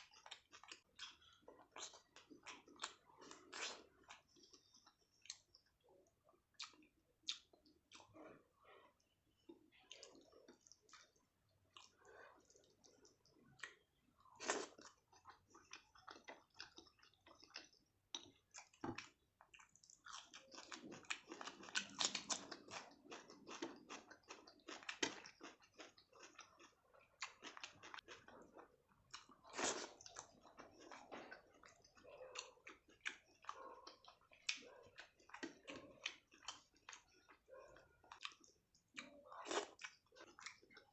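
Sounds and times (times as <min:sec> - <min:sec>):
person chewing food wetly: 0:00.0 - 0:40.9.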